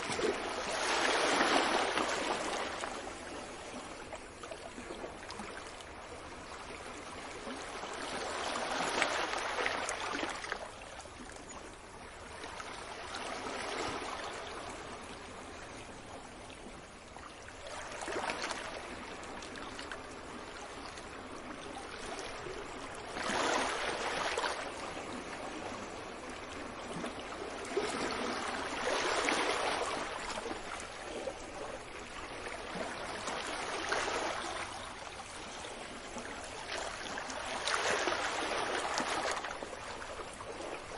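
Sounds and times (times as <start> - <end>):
ocean waves washing onto beach: 0.0 - 40.9.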